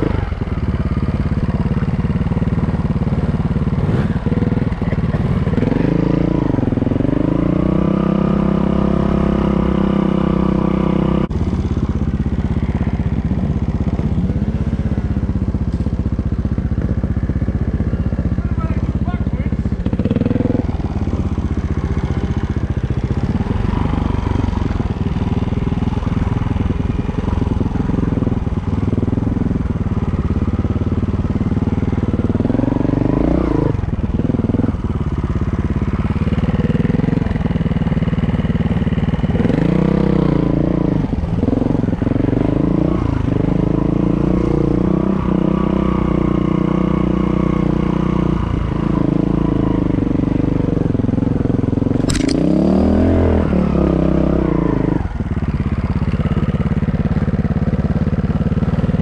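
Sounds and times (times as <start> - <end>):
motorcycle engine running at low revs: 0.0 - 59.0.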